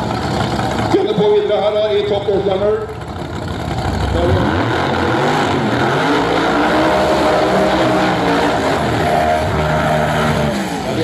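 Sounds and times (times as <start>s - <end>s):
drag car engines revving: 0.0s - 11.0s.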